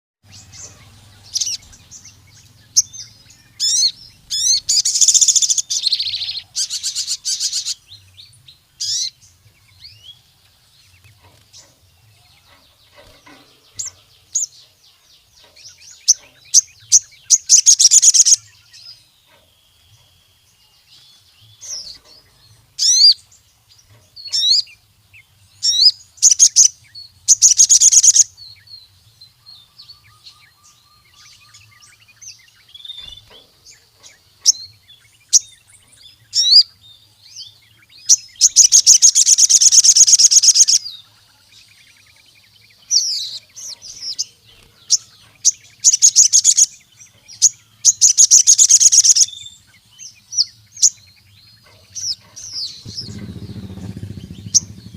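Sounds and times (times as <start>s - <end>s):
sunbird trilling and chirping: 0.2s - 54.9s.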